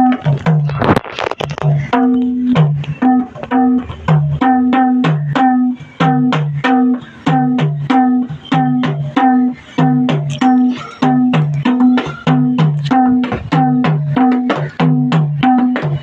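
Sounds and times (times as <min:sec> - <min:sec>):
hand drum rhythm: 0:00.0 - 0:16.0.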